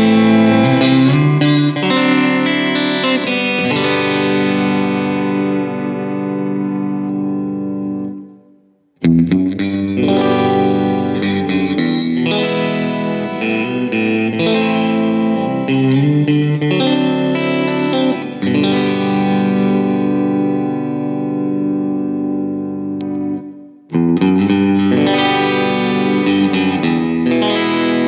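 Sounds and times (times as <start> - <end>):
electric guitar through an amp: 0.0 - 28.0.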